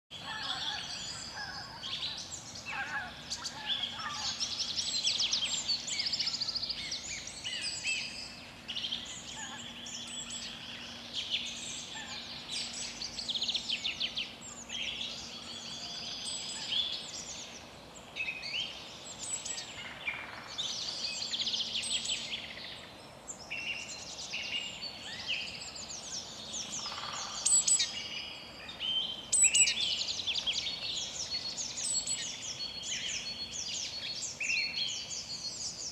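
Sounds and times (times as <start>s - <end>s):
birds chirping and trilling: 0.1s - 35.9s.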